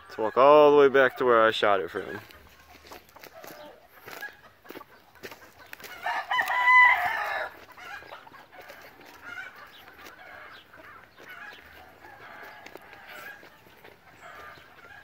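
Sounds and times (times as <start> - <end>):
footsteps on a field: 1.8 - 15.0.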